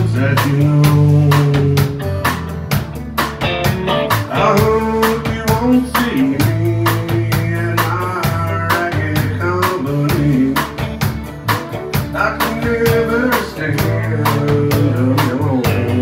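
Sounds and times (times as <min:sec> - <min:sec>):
acoustic guitar: 0:00.0 - 0:16.0
bass guitar: 0:00.0 - 0:16.0
drum kit beat: 0:00.0 - 0:16.0
electric guitar: 0:00.0 - 0:16.0.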